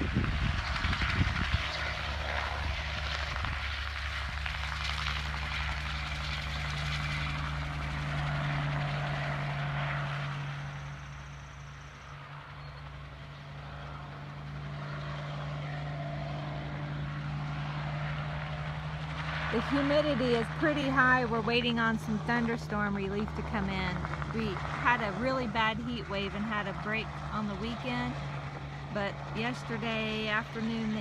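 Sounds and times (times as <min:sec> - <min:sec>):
distant helicopter drone: 0:00.0 - 0:31.0.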